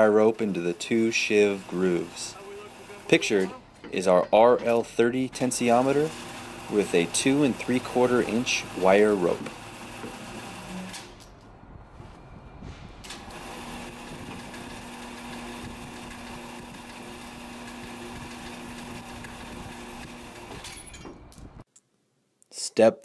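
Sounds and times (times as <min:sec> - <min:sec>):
machinery humming: 0:00.0 - 0:20.7.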